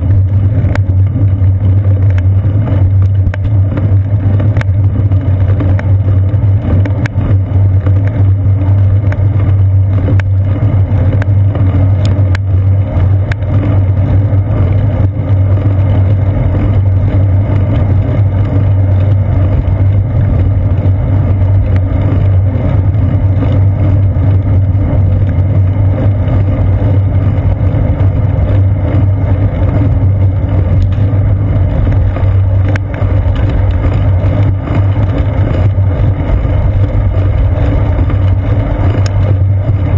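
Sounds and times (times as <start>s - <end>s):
bicycle tyre rumble on pavement: 0.0s - 39.9s
wind: 0.0s - 39.9s.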